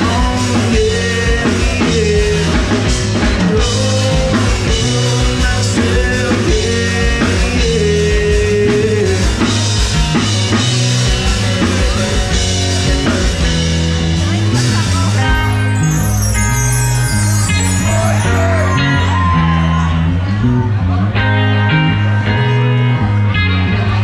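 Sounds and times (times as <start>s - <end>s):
drum kit beat: 0.0s - 20.0s
electric guitars: 0.0s - 24.0s
melodic lead line: 0.0s - 24.0s.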